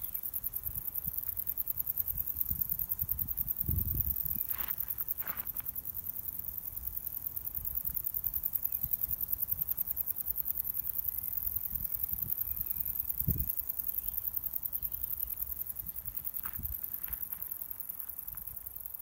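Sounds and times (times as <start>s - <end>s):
insects buzzing high-pitched: 0.0s - 19.0s.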